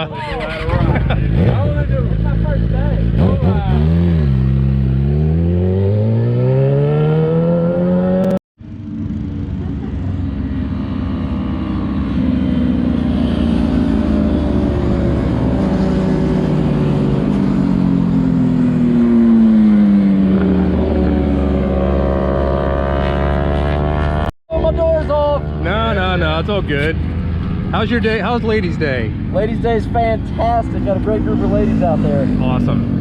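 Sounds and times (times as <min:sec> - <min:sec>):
motorcycle engines racing: 0:00.0 - 0:33.0.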